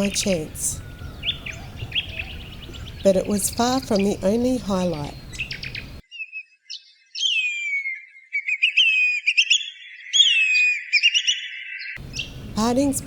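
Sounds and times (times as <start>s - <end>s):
songbird whistled notes: 0.0s - 4.3s, 5.0s - 12.8s.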